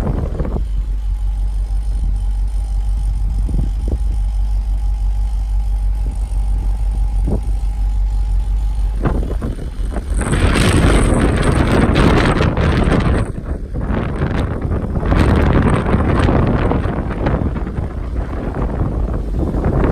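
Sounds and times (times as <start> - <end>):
car engine rumbling: 0.0 - 19.9.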